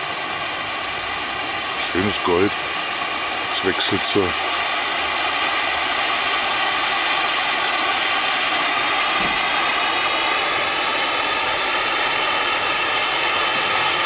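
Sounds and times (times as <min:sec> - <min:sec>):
firework fountain hissing: 0:00.0 - 0:14.0.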